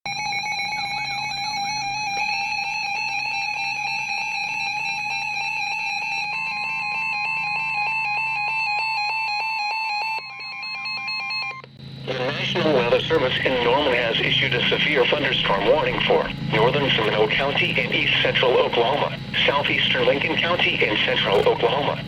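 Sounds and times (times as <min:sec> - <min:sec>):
steady electronic tone: 0:00.1 - 0:22.0
warbling electronic alert tone: 0:00.1 - 0:22.0.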